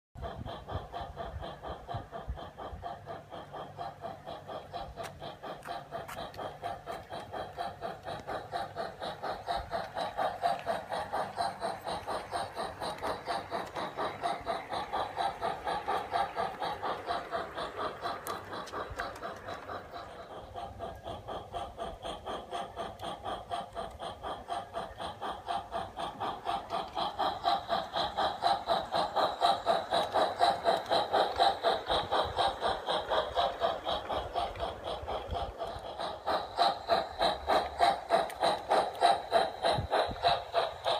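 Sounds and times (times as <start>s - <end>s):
model steam locomotive chuffing: 0.2s - 40.9s.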